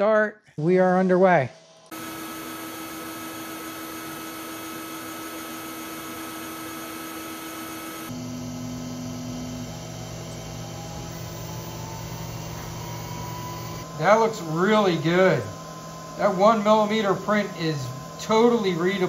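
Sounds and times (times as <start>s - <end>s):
laser engraver humming: 1.6s - 19.0s.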